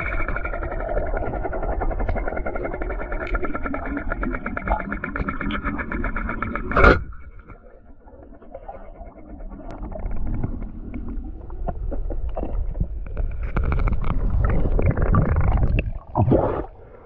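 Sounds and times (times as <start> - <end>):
underwater clicks and crackles: 0.0 - 16.8
low underwater rumble: 0.0 - 17.0.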